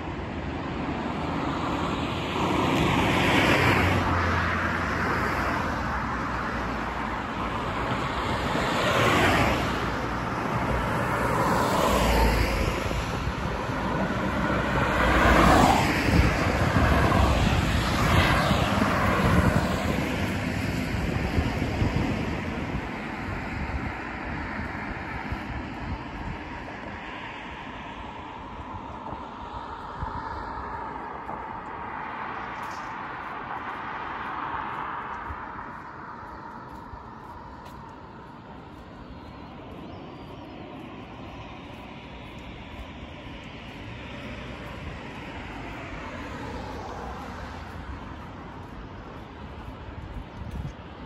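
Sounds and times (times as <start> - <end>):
steady traffic rumble: 0.0 - 51.0
vehicles passing close by: 0.0 - 51.0.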